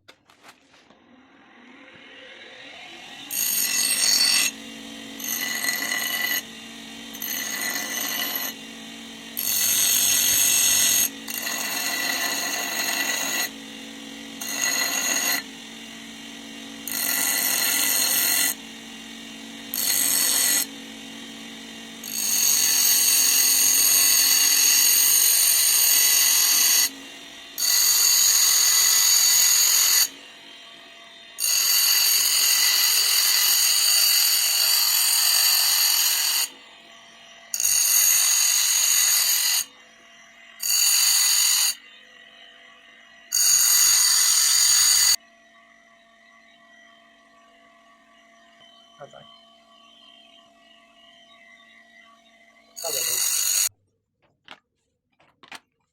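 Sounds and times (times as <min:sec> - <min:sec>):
bench grinder running: 0:00.4 - 0:53.7
steel screeching on grinding wheel: 0:01.4 - 0:53.7.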